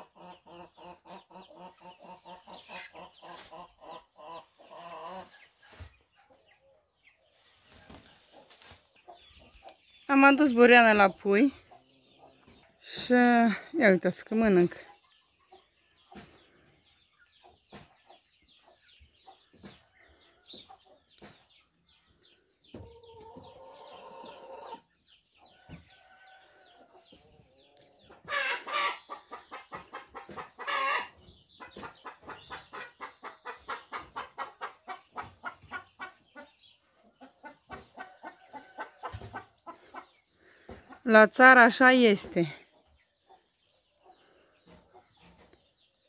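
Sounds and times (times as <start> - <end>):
chickens clucking: 0.0 - 46.0.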